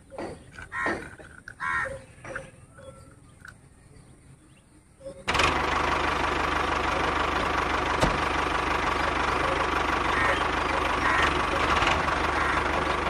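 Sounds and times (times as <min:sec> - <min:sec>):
toy tractor engine sound: 0:00.0 - 0:03.7, 0:05.2 - 0:13.0.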